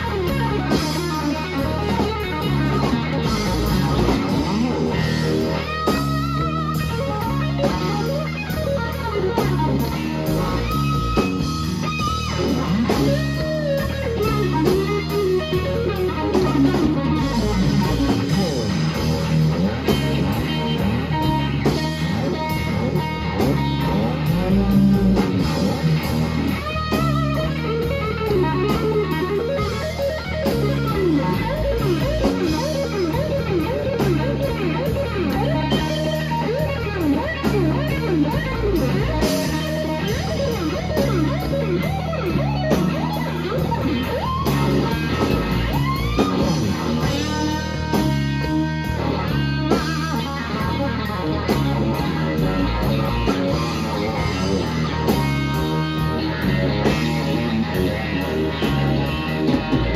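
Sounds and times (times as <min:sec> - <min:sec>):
bass guitar: 0:00.0 - 0:59.9
drum kit steady beat: 0:00.0 - 0:59.9
electric guitar lead with string bends: 0:00.0 - 0:59.9.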